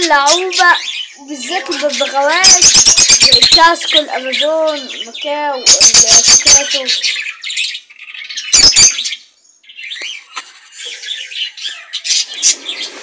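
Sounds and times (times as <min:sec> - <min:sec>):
birds chirping and chattering: 0:00.0 - 0:13.0
birds squawking loudly: 0:00.0 - 0:13.0.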